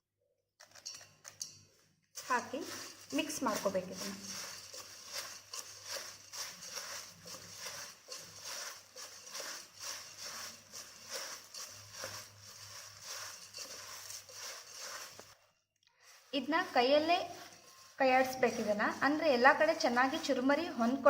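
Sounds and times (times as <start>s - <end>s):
puffed rice rustling in a bowl: 0.6s - 21.0s.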